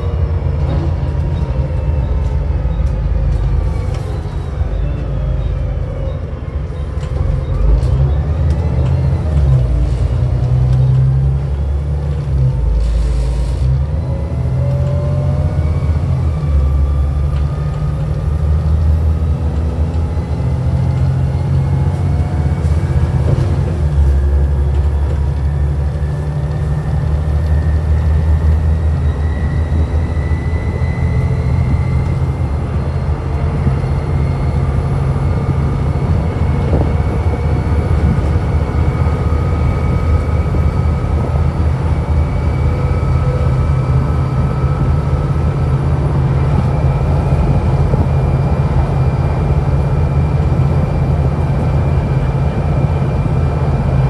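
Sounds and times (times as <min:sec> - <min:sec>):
bus engine accelerating: 0:00.0 - 0:54.0.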